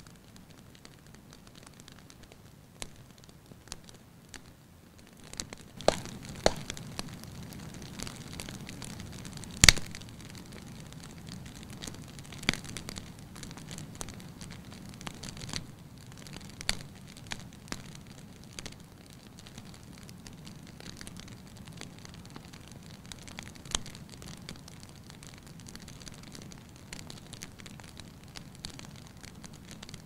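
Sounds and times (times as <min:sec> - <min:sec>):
low hiss: 0:00.0 - 0:30.0
wood fire crackling: 0:00.0 - 0:30.0
fire popping: 0:00.2 - 0:30.0.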